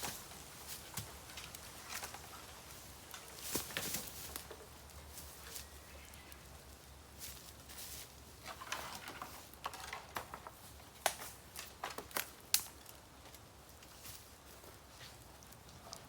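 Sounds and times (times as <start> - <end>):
dry bamboo crackling and snapping: 0.0 - 16.0.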